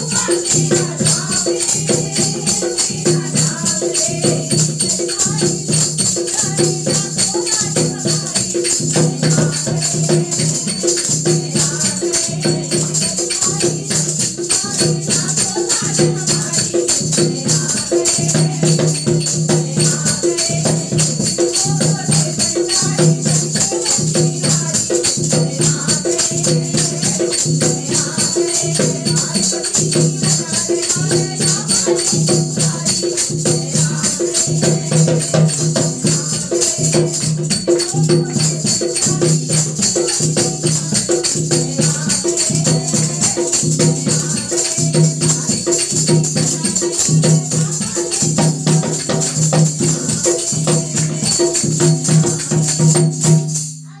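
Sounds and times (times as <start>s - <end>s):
hand drum: 0.0s - 54.0s
jingling hand percussion: 0.0s - 54.0s
women singing devotional song: 0.0s - 54.0s.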